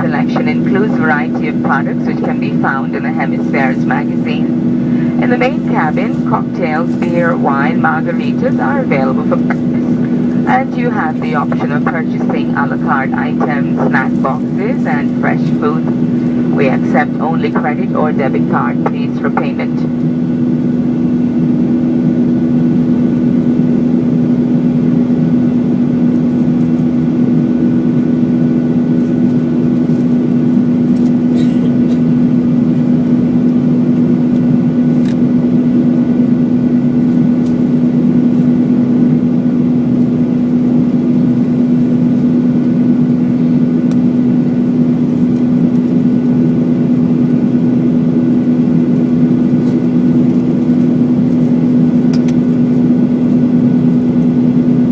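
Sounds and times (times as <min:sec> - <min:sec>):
airplane cabin engine drone: 0:00.0 - 0:54.9
constant low hum: 0:00.0 - 0:54.9.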